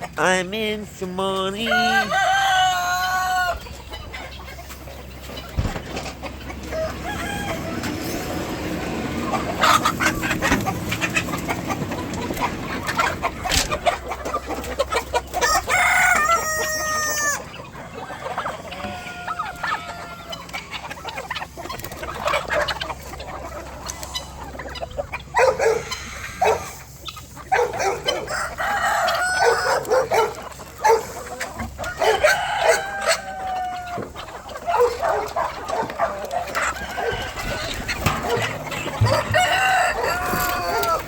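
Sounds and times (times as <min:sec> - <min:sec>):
chickens clucking: 0:00.0 - 0:41.0
roosters crowing: 0:01.0 - 0:41.0.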